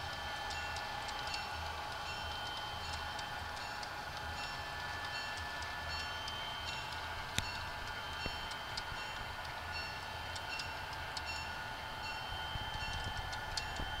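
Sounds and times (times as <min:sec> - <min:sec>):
model train wheels clicking on track: 0:00.0 - 0:14.0
steady high hum: 0:00.0 - 0:14.0.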